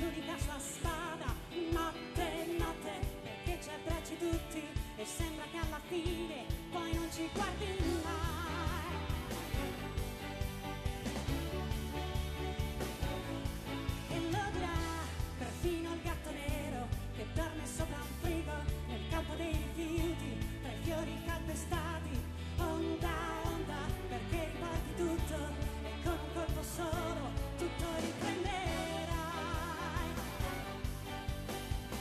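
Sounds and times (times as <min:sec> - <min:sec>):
woman singing with vibrato: 0:00.0 - 0:09.9, 0:13.0 - 0:31.2
band and string orchestra: 0:00.0 - 0:32.0
drums steady beat: 0:00.0 - 0:32.0.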